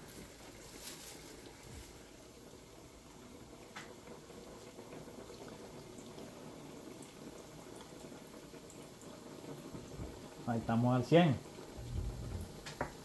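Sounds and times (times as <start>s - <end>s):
oil sizzling: 0.0s - 13.0s
small crackles and pops: 0.0s - 13.0s.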